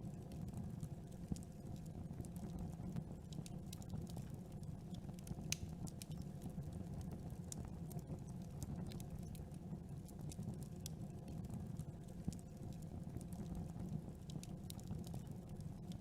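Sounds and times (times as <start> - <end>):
wood crackling and popping: 0.3 - 16.0.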